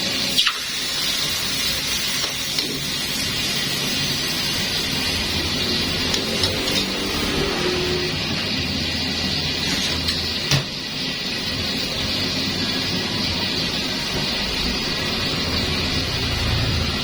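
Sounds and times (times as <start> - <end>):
food frying in a pan: 0.0 - 17.0.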